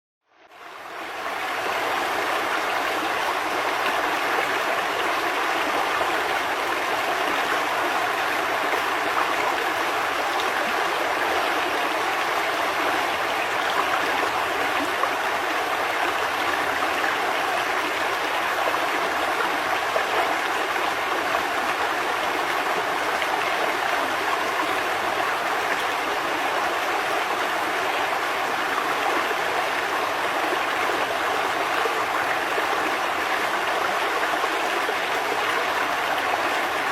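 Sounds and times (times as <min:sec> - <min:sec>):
river flowing over rocks: 0:00.5 - 0:36.9.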